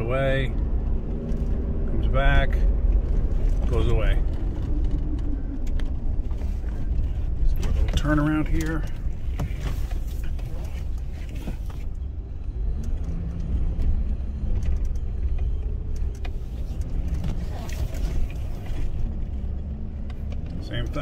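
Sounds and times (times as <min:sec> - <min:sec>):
low hum: 0:00.0 - 0:20.7
truck road and drivetrain rumble: 0:00.0 - 0:21.0.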